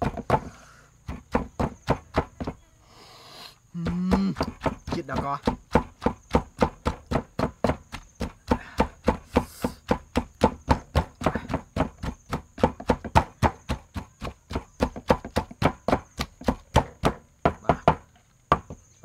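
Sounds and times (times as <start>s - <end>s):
wooden pestle pounding in mortar: 0.0s - 2.6s, 3.8s - 18.9s.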